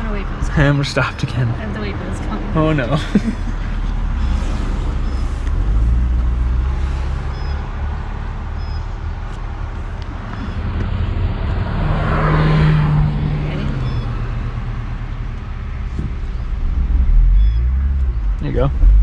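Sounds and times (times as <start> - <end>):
car engine idling: 0.0 - 11.6, 13.1 - 19.0
traffic passing: 0.0 - 19.0
vehicle passing by: 1.3 - 9.3, 10.1 - 19.0.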